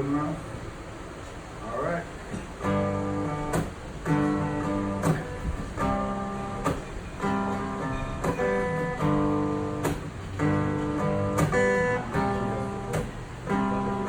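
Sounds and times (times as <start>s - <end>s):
acoustic guitar strumming chords: 2.3s - 14.0s.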